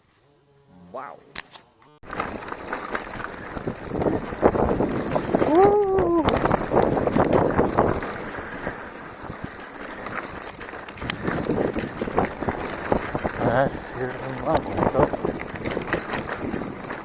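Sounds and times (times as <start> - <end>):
bicycle rattling on dirt track: 2.0 - 17.0.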